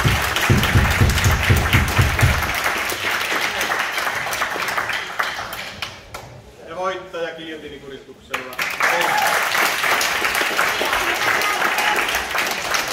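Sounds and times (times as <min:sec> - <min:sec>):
audience applauding: 0:00.0 - 0:06.2, 0:08.3 - 0:12.9.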